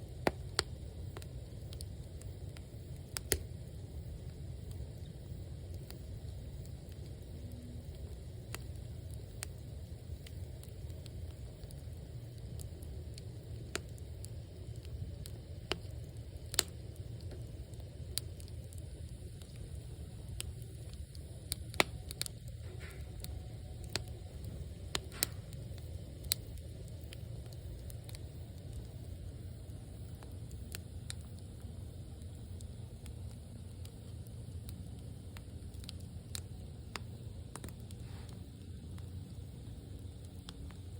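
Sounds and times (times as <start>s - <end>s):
burning logs crackling and popping: 0.0s - 40.9s
flames rushing: 0.0s - 40.9s.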